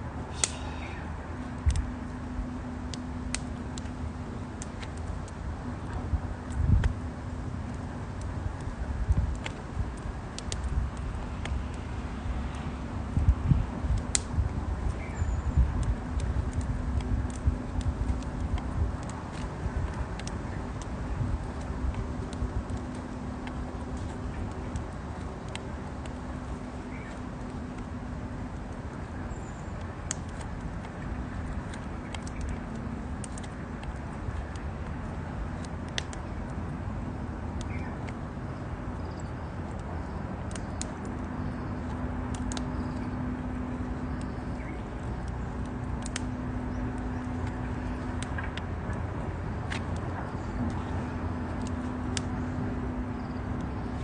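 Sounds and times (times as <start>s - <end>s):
campfire crackling: 0.0s - 54.0s
fire rumble: 0.0s - 54.0s
low hum: 0.0s - 54.0s.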